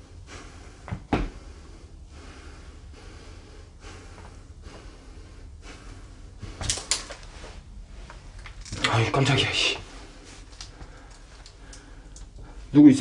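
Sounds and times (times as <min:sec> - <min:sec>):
soft breathing close to microphone: 0:00.0 - 0:08.4, 0:09.8 - 0:12.8.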